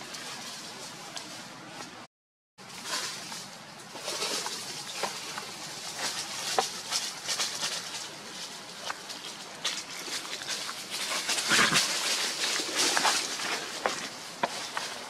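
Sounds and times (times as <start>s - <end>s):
dry leaves crunching underfoot: 2.6s - 15.0s.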